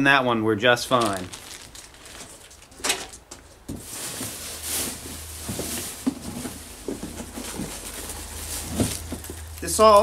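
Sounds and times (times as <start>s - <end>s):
rustling in cardboard box: 0.9s - 2.8s, 3.7s - 10.0s.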